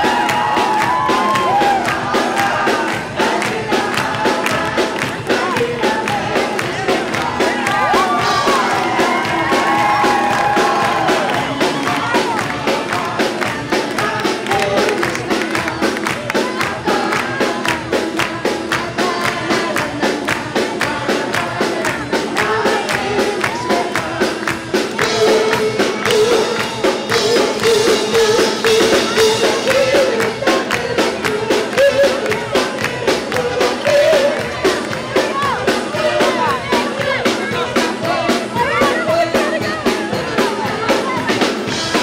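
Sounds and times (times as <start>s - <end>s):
upbeat dance music with singing: 0.0s - 42.0s.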